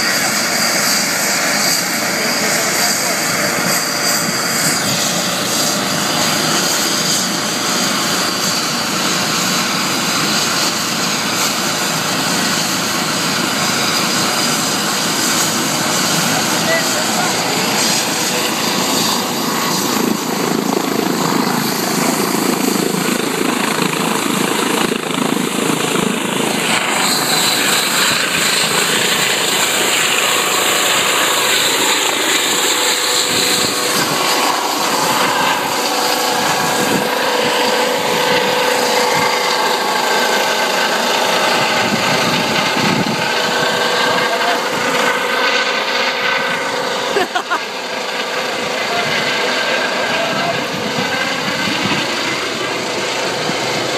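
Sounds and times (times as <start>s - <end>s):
helicopter rotor noise: 0.0s - 53.9s
helicopter turbine whine: 0.0s - 53.9s.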